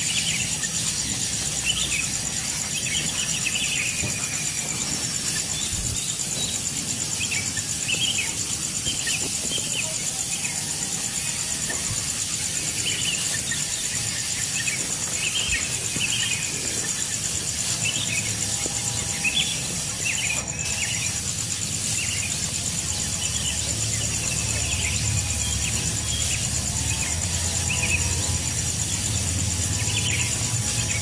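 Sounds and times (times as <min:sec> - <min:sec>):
constant hiss: 0:00.0 - 0:31.0
pulsing insect trill: 0:00.0 - 0:31.0.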